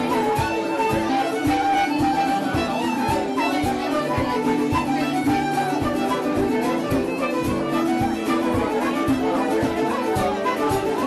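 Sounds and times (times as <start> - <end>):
fiddle melody: 0.0 - 11.0.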